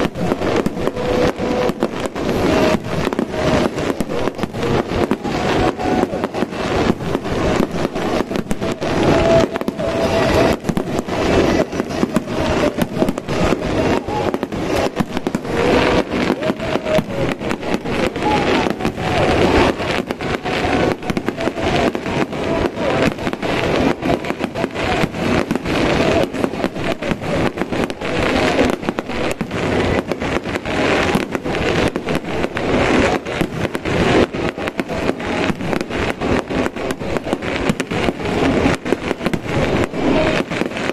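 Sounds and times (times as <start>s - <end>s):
fireworks bangs and crackle: 0.0s - 40.9s.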